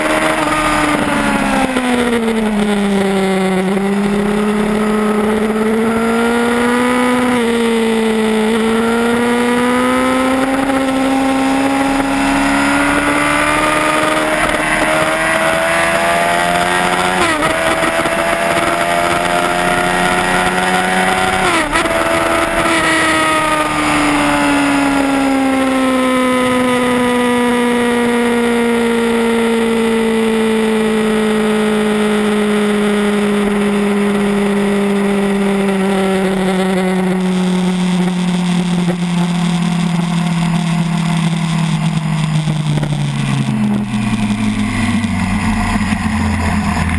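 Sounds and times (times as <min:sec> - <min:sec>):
motorcycle engine pulling hard: 0:00.0 - 0:46.9.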